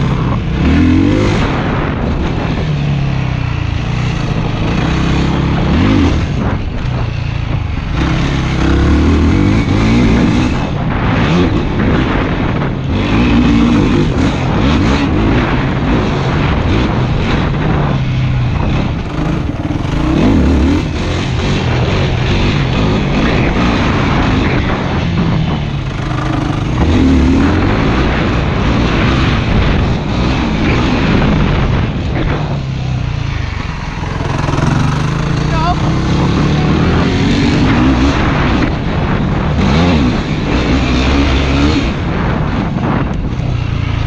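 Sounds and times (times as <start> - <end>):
quad engine revving: 0.0 - 44.0.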